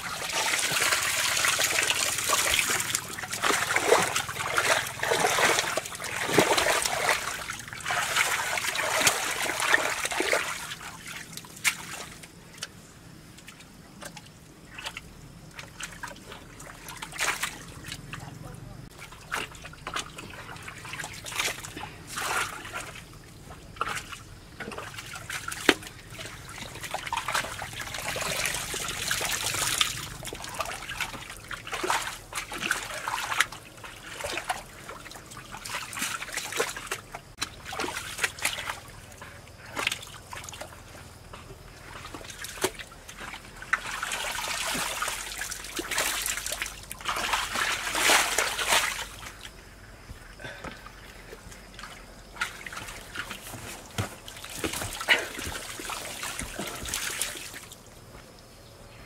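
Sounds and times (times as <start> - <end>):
muddy water splashing: 0.0 - 58.5.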